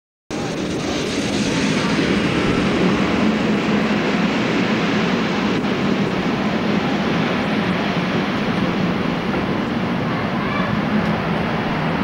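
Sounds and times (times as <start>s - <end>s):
steam locomotive rushing steam: 0.3s - 12.0s.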